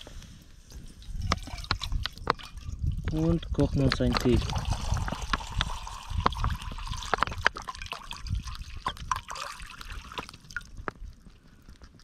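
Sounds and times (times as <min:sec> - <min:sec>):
water pouring into a pot: 0:01.0 - 0:10.8.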